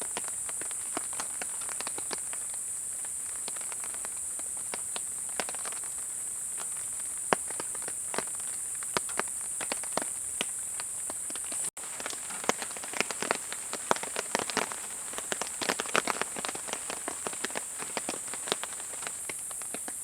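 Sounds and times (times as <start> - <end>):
rain pattering on a tarp: 0.0 - 20.0.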